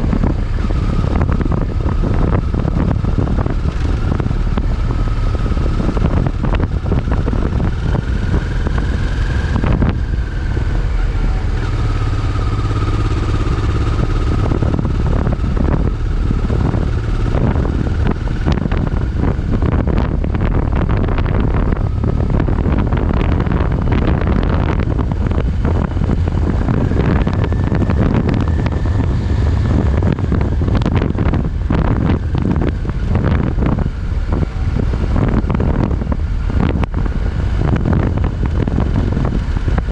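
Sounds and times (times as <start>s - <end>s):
motorcycle engine rumble: 0.0s - 39.9s
wind noise on microphone: 0.0s - 39.9s.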